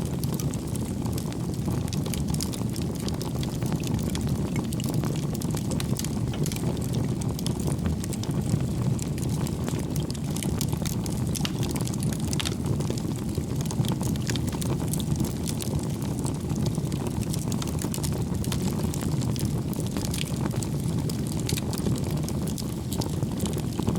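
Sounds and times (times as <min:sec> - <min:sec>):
fire crackling and popping: 0:00.0 - 0:23.9
fire flames rumbling: 0:00.0 - 0:23.9.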